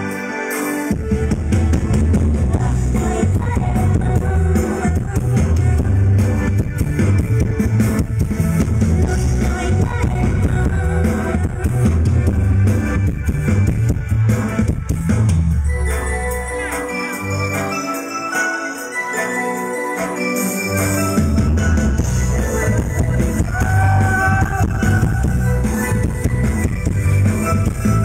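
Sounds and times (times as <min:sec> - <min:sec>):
loud band music over sound system: 0:00.0 - 0:28.0.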